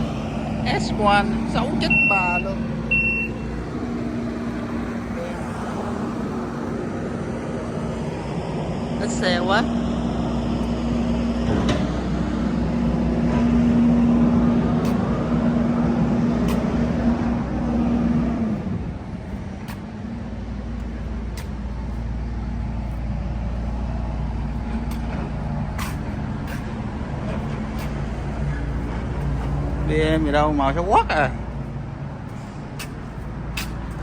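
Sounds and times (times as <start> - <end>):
vehicle engine hum: 0.0 - 34.0
low rumble: 2.6 - 34.0.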